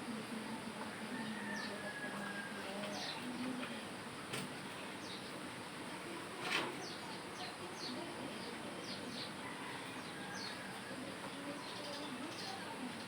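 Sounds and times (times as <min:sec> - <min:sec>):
steady outdoor background: 0:00.0 - 0:13.0
small birds chirping: 0:00.4 - 0:03.8, 0:04.7 - 0:13.0.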